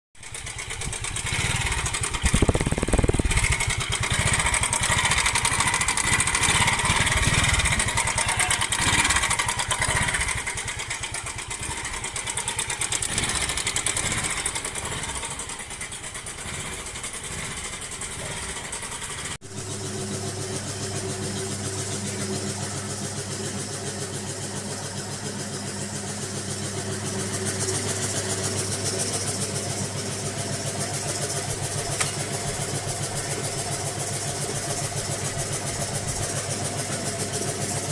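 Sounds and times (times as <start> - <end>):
scooter engine running: 0.2 - 37.9.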